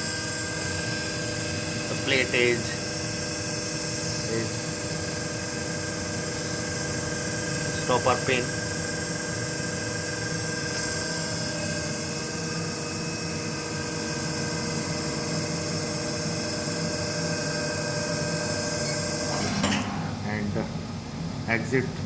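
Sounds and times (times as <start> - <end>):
machine mechanical hum: 0.0 - 22.0.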